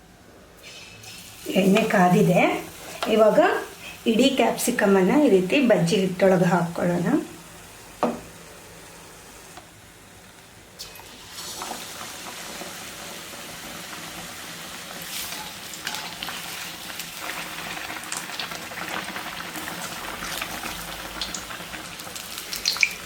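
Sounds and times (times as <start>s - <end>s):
batter sizzling in hot oil: 0.6s - 9.6s, 10.8s - 23.0s.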